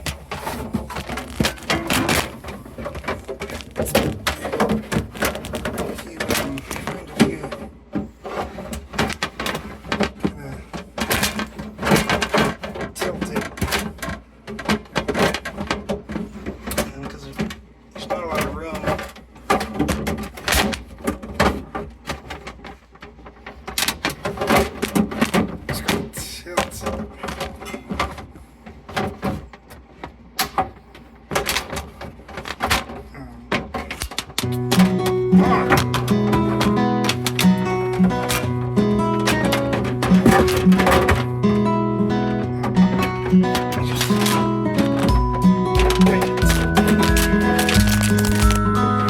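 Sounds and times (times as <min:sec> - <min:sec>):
fridge items clattering and knocking: 0:00.0 - 0:49.0.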